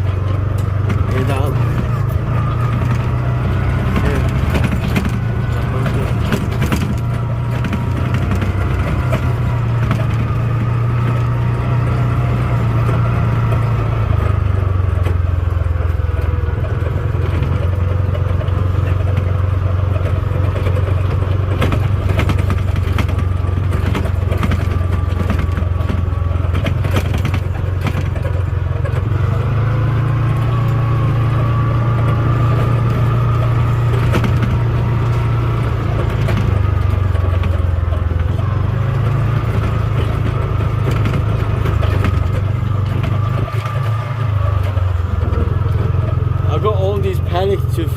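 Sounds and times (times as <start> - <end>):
clicks and rattles: 0.0 - 46.2
farm vehicle engine running: 0.0 - 47.9.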